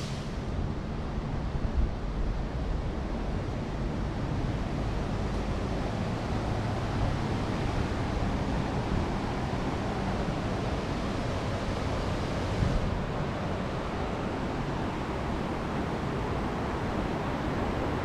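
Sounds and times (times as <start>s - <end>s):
wind rumble on microphone: 0.4s - 18.0s.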